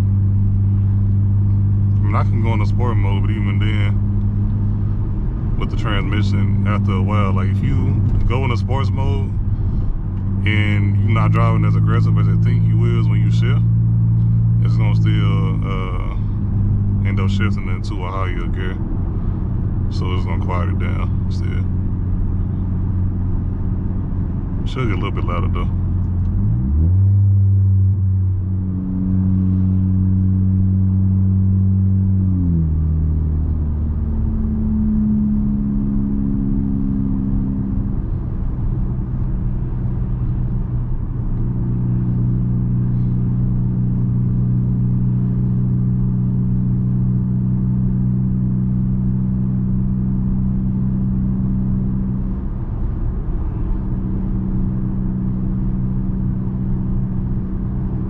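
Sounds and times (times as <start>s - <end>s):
car exhaust accelerating: 0.0s - 58.0s.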